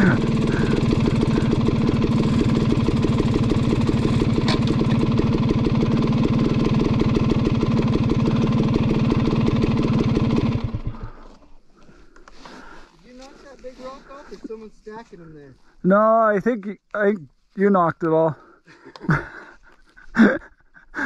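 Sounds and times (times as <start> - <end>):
dirt bike engine idling: 0.0 - 15.8, 18.8 - 21.0.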